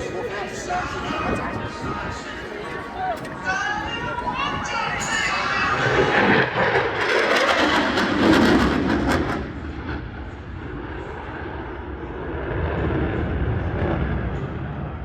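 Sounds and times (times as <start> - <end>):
jet engine roaring past: 0.0 - 15.0.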